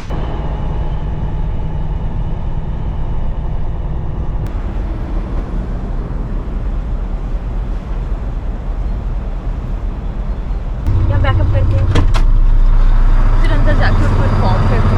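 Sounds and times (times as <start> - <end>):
truck engine and road rumble: 0.0 - 14.9.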